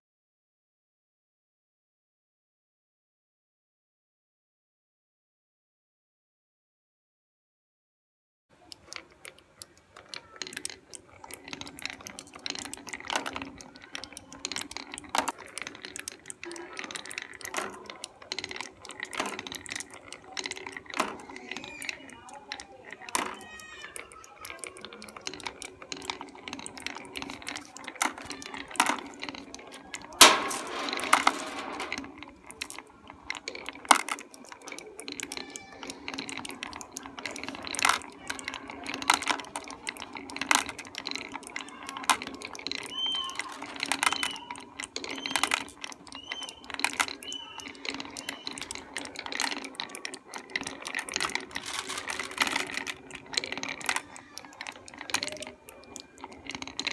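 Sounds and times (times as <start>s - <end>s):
marbles clacking against sticks: 8.6s - 56.9s
marbles clinking into plastic: 8.6s - 56.9s
marbles rolling rumble: 8.6s - 56.9s.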